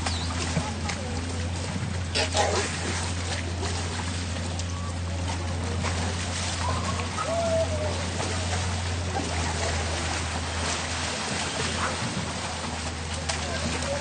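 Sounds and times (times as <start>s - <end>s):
elephants splashing in water: 0.0s - 14.0s
flowing river water: 0.0s - 14.0s.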